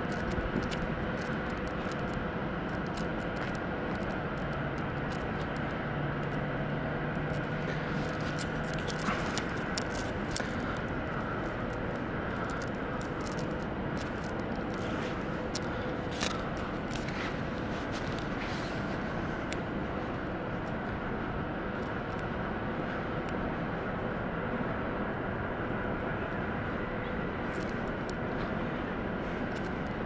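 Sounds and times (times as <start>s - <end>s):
distant traffic hum: 0.0s - 30.0s.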